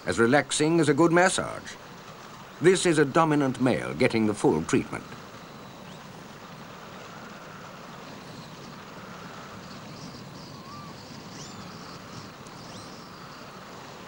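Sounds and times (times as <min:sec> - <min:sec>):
rushing outdoor background noise: 0:00.0 - 0:14.0.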